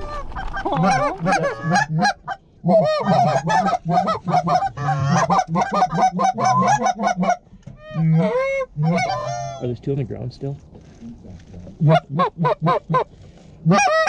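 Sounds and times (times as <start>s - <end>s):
goose calls honking and clucking: 0.0s - 9.7s, 11.8s - 14.0s.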